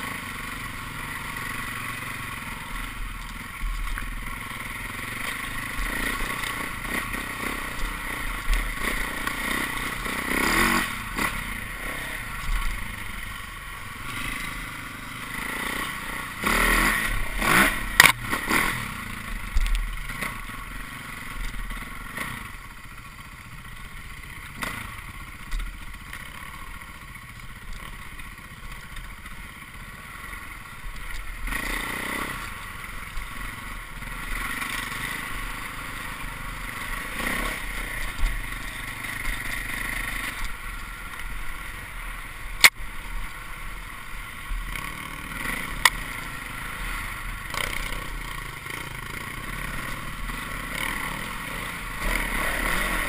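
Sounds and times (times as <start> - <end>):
dirt bike engine running: 0.0 - 53.0.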